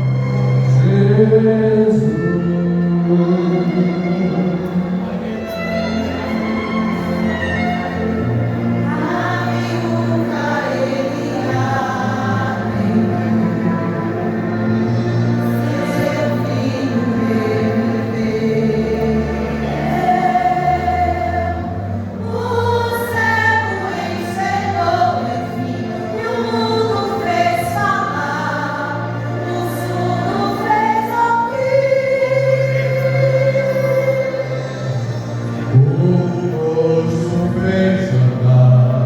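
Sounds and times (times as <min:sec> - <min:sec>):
low instrumental accompaniment: 0:00.0 - 0:39.0
gospel group singing in harmony: 0:06.5 - 0:39.0.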